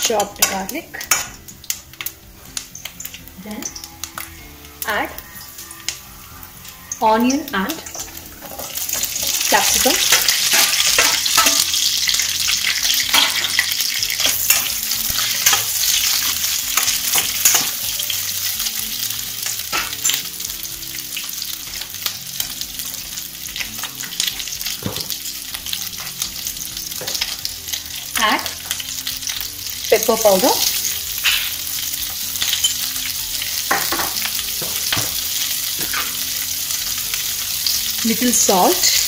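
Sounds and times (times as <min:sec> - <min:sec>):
oil crackles: 0:00.0 - 0:39.0
vegetables sizzling in oil: 0:00.0 - 0:39.0.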